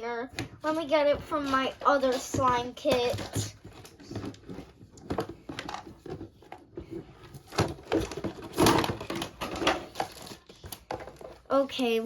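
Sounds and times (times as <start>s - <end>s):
objects being rummaged through: 0.6s - 11.8s.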